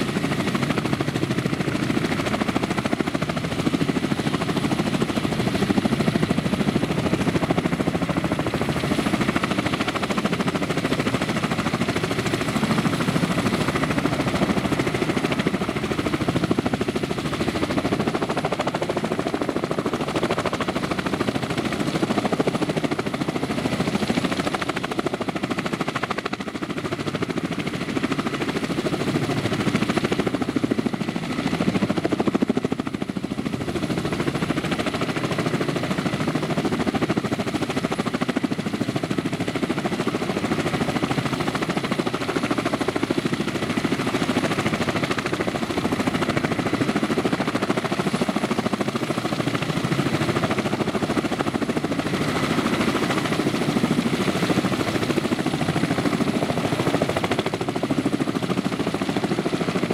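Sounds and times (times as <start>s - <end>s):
helicopter engine running: 0.0s - 59.9s.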